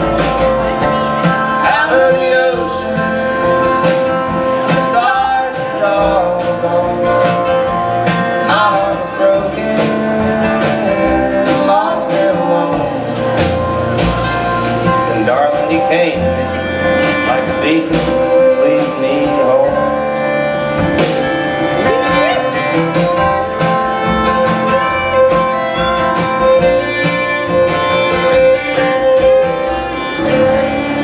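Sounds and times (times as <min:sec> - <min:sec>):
acoustic guitar strumming: 0:00.0 - 0:31.0
electric guitar: 0:00.0 - 0:31.0
fiddle: 0:00.0 - 0:31.0
upright bass: 0:00.0 - 0:31.0.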